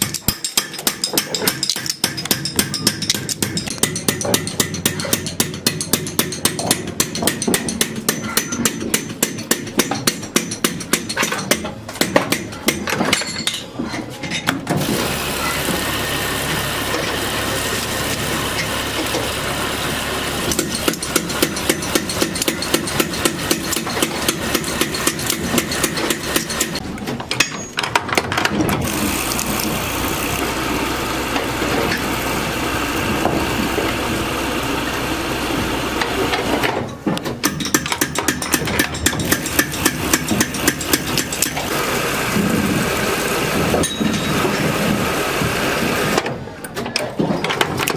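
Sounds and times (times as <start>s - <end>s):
rapid hammer strikes: 0.0s - 13.4s, 14.7s - 46.4s.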